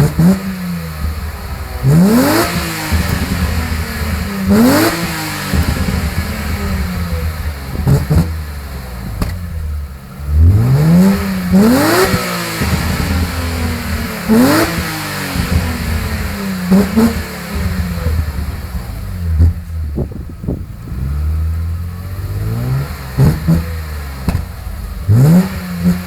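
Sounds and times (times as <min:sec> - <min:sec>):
car engine revving: 0:00.0 - 0:26.0
exhaust cracks: 0:00.0 - 0:26.0.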